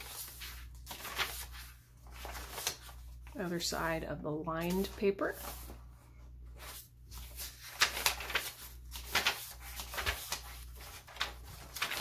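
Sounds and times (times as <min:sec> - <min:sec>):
paper pages rustling: 0:00.0 - 0:03.7, 0:04.6 - 0:12.0.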